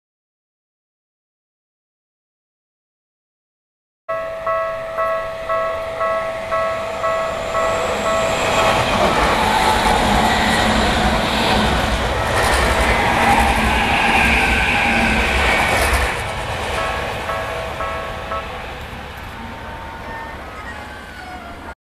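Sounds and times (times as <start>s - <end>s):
level-crossing warning bell: 4.1s - 21.8s
train passing close by: 4.1s - 21.8s.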